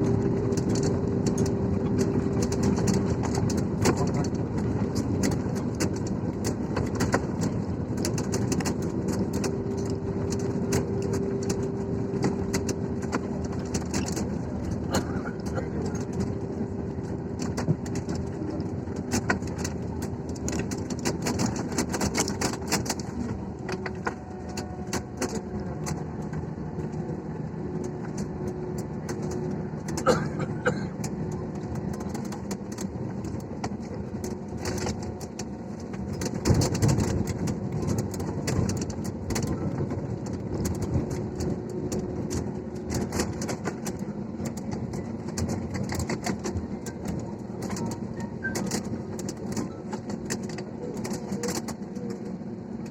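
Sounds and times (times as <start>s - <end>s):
airliner engines and airflow hum: 0.0s - 52.9s.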